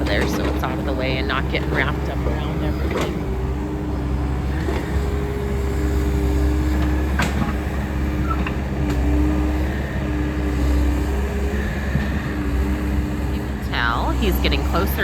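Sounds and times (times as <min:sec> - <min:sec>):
diesel engine running under load: 0:00.0 - 0:15.0
hydraulic whine: 0:00.0 - 0:15.0.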